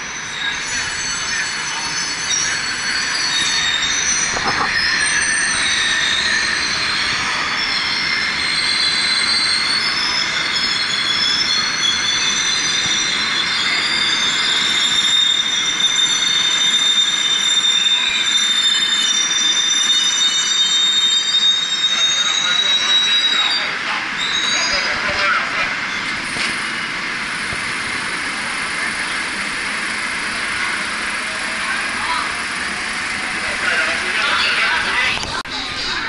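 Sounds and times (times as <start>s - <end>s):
subway train rumble: 0.0s - 36.0s
train brakes squealing: 0.0s - 36.0s.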